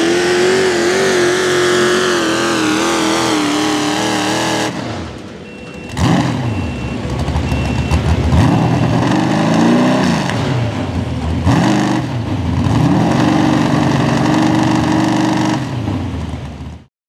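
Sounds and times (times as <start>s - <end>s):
tractor engine revving: 0.0s - 16.9s.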